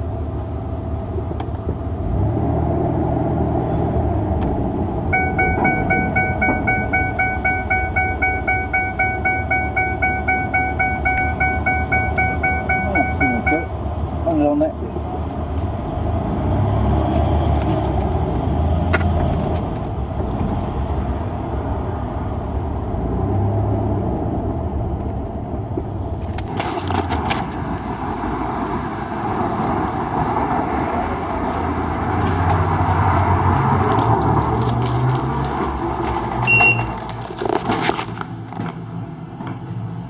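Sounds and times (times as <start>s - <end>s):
road noise: 0.0s - 40.0s
vehicle engine rumble: 0.0s - 40.0s.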